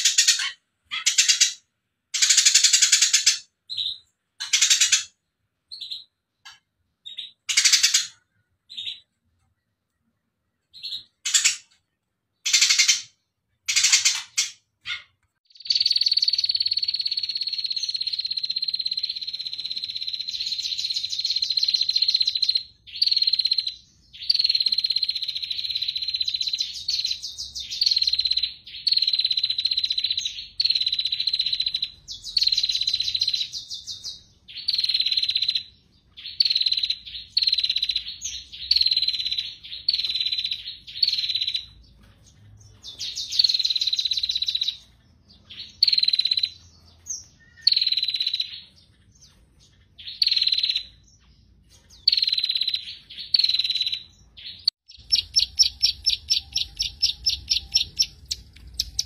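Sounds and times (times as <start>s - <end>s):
sharp ticking bird notes: 0.0s - 9.2s, 10.6s - 59.0s.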